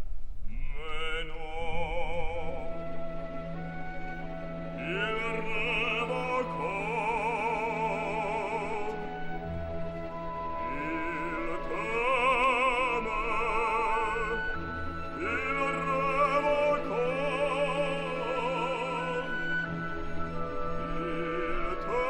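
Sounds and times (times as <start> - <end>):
operatic singing: 0.5 - 22.0
orchestra playing: 2.7 - 22.0.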